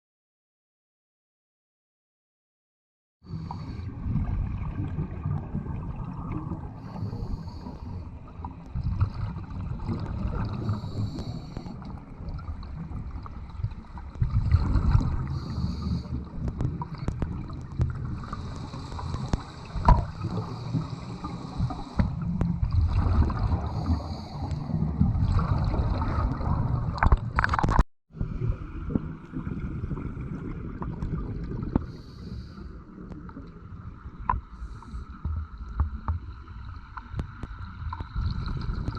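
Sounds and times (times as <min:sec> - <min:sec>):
bubbling exhaled air: 0:03.3 - 0:33.7, 0:34.3 - 0:38.9.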